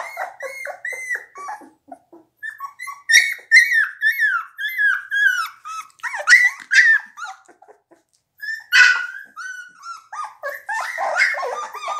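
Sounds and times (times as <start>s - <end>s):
puppies whining and crying: 0.0s - 11.9s.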